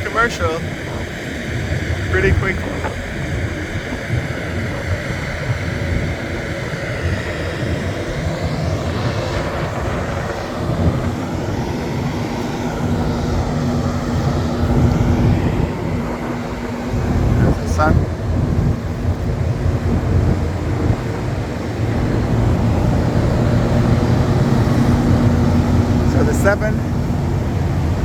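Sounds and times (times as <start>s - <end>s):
aircraft engine rumble: 0.0s - 28.0s
steady hum: 0.0s - 28.0s.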